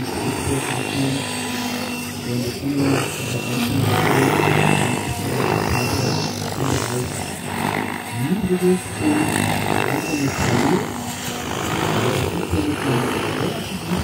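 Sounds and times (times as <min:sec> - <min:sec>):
model helicopter rotor drone: 0:00.0 - 0:14.0.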